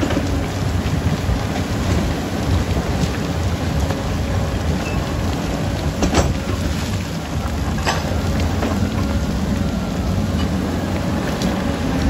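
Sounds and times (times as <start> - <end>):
bulldozer diesel engine rumbling: 0.0 - 12.0
loose rock and soil pushed: 0.0 - 12.0.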